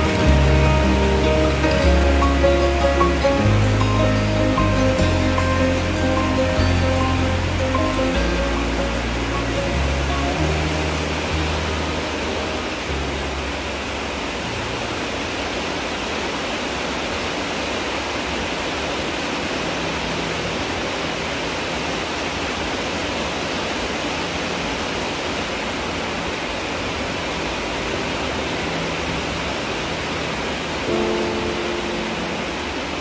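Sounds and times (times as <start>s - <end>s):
heavy rain on a roof: 0.0s - 33.0s.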